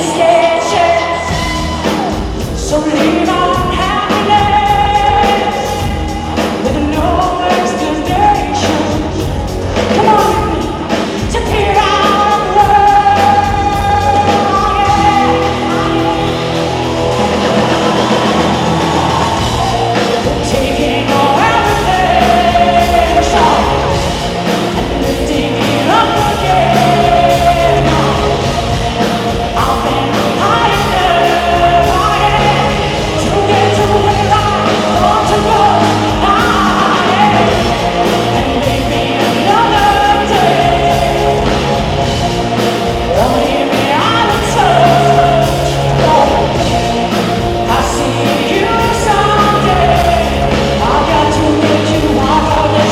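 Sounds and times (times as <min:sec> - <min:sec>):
drum beat and bass: 0:00.0 - 0:52.9
electronic rock song: 0:00.0 - 0:52.9
woman singing: 0:00.0 - 0:52.9.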